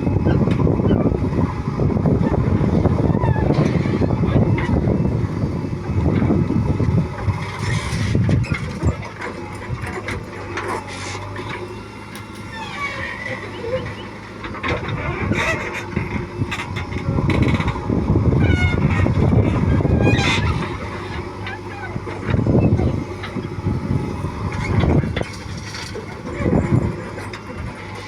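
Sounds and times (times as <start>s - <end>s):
diesel machinery engine: 0.0s - 28.0s.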